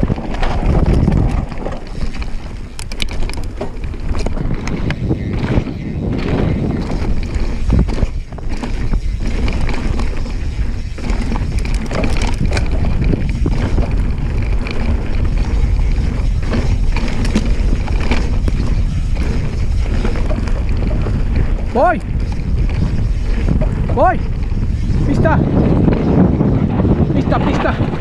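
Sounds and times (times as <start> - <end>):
bike rattling and knocking: 0.0 - 28.0
bike tyres rolling over dirt: 0.0 - 28.0
wind buffeting microphone: 0.0 - 28.0.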